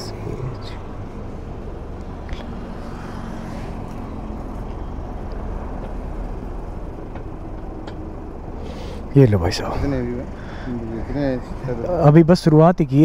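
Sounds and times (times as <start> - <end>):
faint engine hum: 0.0 - 13.0
highway traffic rumble: 0.0 - 13.0.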